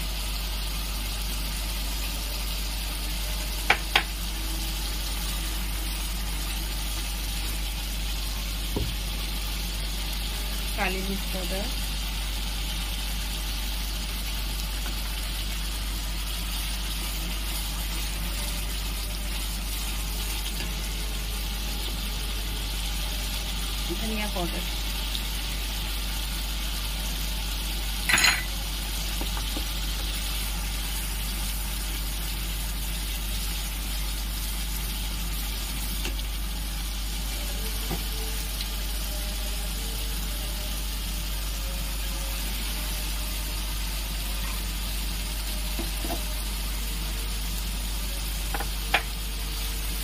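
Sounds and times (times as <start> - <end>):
food sizzling in oil: 0.0 - 50.0.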